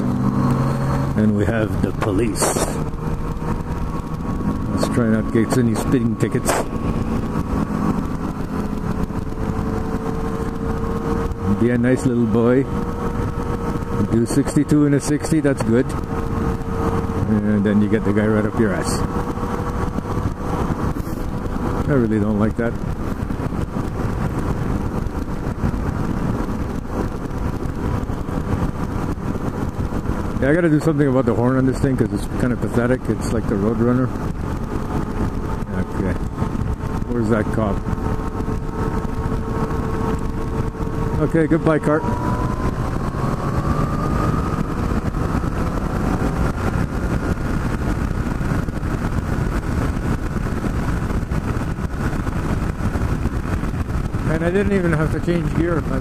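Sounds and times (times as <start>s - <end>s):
motorcycle engine and road noise: 0.0s - 56.0s
wind rushing past microphone: 0.0s - 56.0s.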